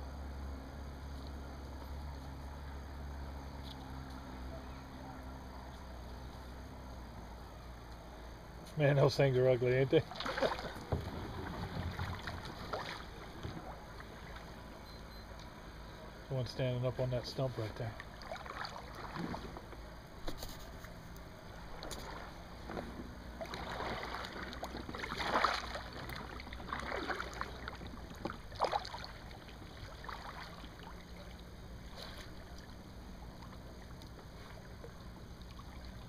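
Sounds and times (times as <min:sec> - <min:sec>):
water lapping around kayak: 0:00.0 - 0:36.0.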